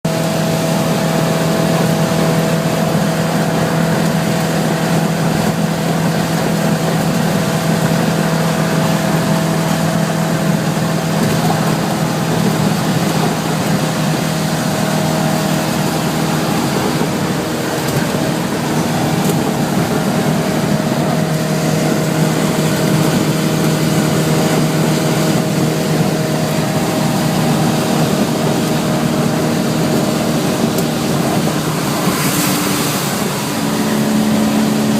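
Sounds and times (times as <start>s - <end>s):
car engine driving: 0.0s - 34.9s.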